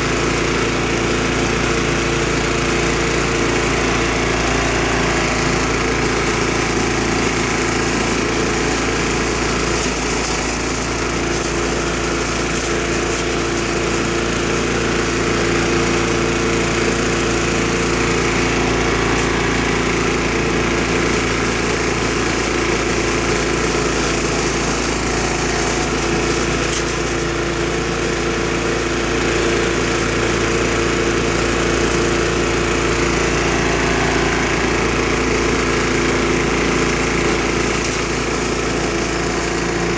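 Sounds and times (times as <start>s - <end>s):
small gas engine humming: 0.0s - 39.9s.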